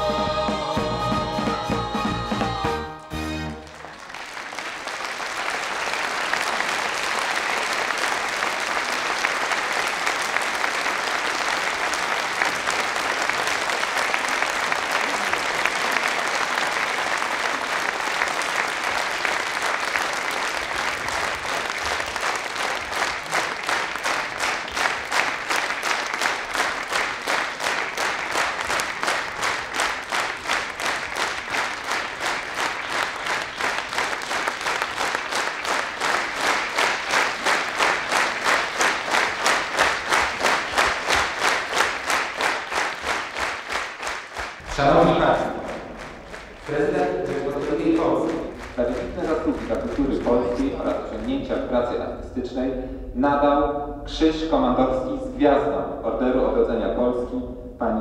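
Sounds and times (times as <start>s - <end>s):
audience applauding: 3.2s - 52.0s
clapping in unison: 3.6s - 51.6s.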